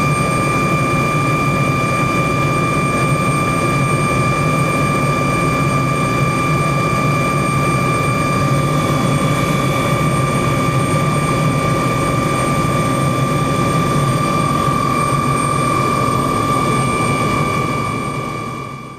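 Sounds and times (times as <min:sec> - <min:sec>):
helicopter in flight: 0:00.0 - 0:18.9.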